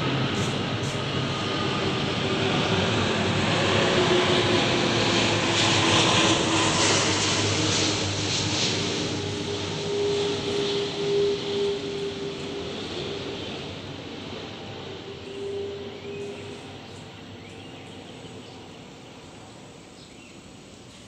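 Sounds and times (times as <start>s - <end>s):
jet airliner passing overhead: 0.0s - 21.0s.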